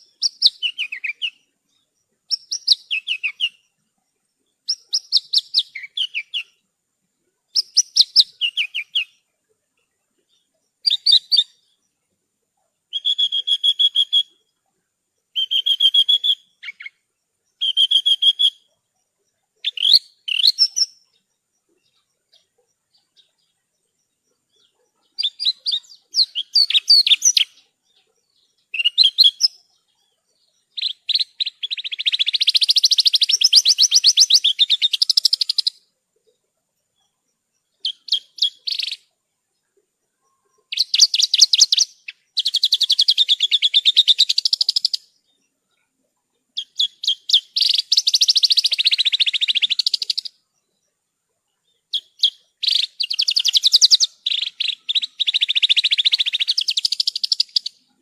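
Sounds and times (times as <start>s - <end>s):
bush lark singing: 0.0s - 12.0s, 12.6s - 58.0s.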